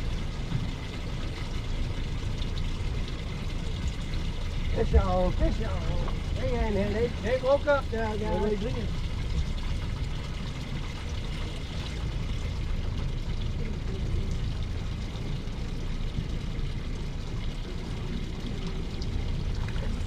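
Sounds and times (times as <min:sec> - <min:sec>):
steady low rumble: 0:00.0 - 0:20.0
water sloshing and splashing: 0:00.0 - 0:20.0.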